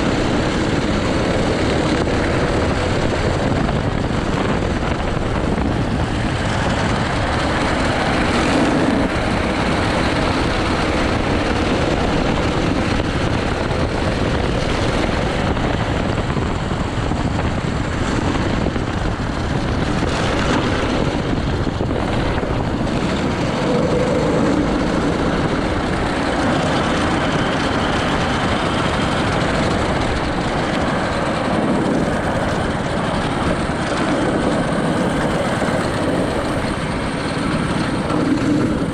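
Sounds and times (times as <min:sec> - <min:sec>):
go-kart engine drone: 0:00.0 - 0:38.9.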